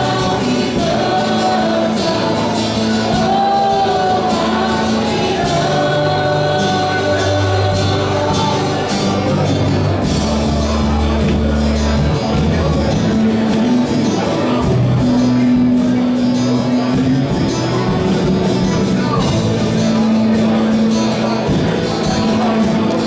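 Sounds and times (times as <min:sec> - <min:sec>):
live worship band music: 0:00.0 - 0:23.0.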